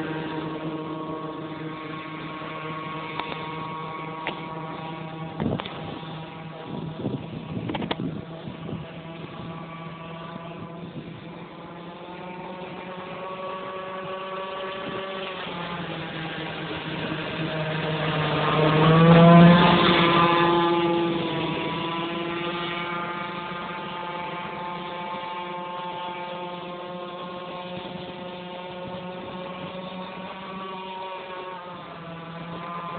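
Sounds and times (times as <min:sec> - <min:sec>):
boat engine buzzing past: 0:00.0 - 0:32.9.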